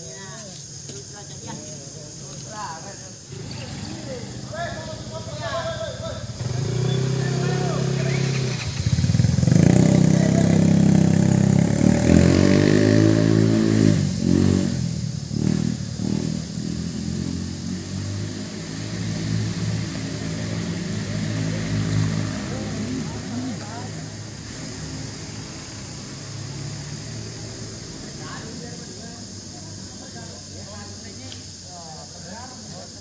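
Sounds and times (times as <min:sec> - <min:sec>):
outdoor background hiss: 0:00.0 - 0:33.0
vehicle engine passing by: 0:03.3 - 0:31.2.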